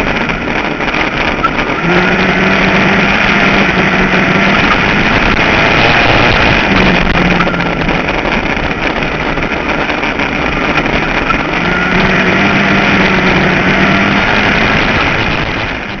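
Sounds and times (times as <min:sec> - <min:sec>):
race car engine running: 0:00.0 - 0:16.0
wind noise on microphone: 0:00.0 - 0:16.0.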